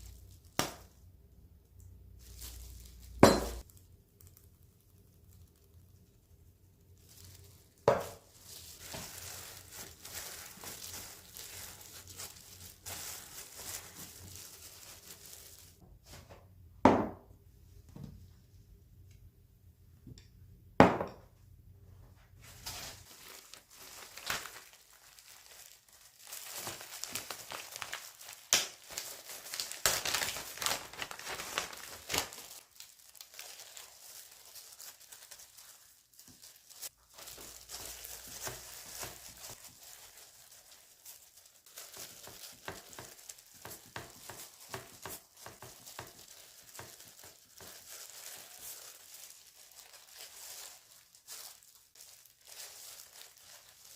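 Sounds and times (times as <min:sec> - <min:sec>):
packaging crinkling and rustling: 0:01.8 - 0:16.4, 0:22.4 - 0:53.9.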